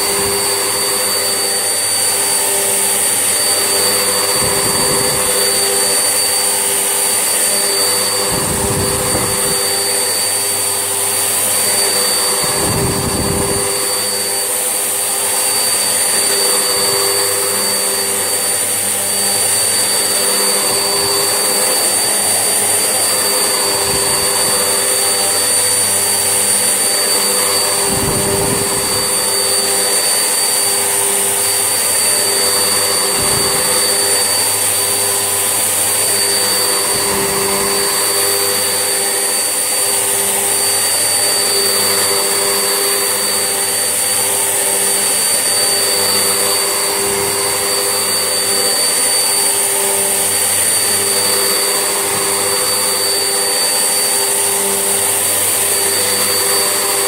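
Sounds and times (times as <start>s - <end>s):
vacuum cleaner motor whining: 0.0s - 57.0s.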